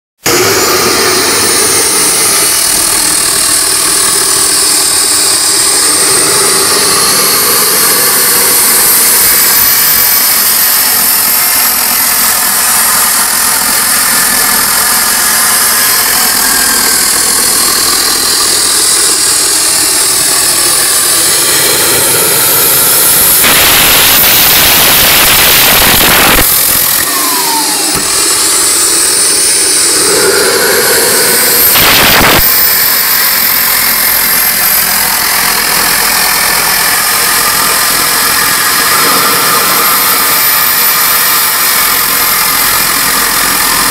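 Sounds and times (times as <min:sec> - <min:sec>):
gas turbine roaring with whine: 0:00.2 - 0:43.9
loud rushing hiss: 0:00.2 - 0:43.9.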